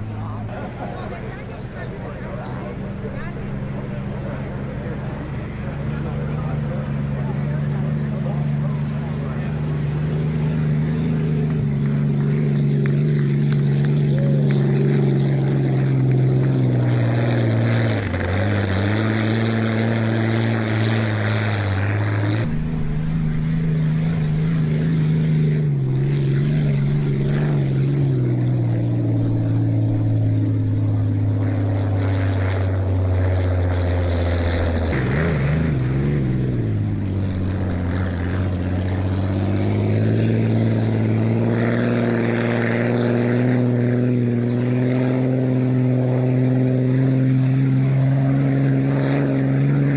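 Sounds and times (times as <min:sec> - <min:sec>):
hydroplane engine running: 0:00.0 - 0:49.9.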